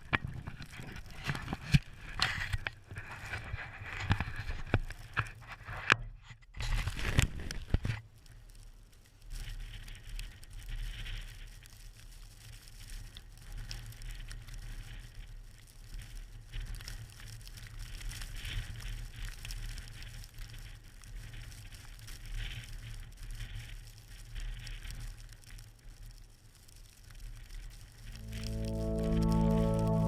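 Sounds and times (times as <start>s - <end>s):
light crackling and patter: 0.0s - 30.0s.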